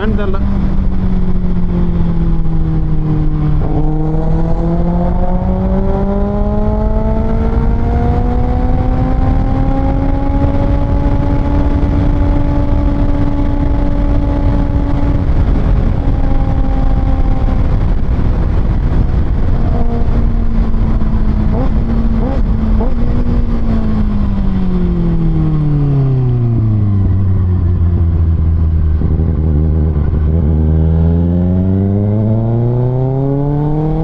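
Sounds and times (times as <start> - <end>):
motorcycle engine accelerating: 0.0 - 34.0
wind and road rush: 0.0 - 34.0.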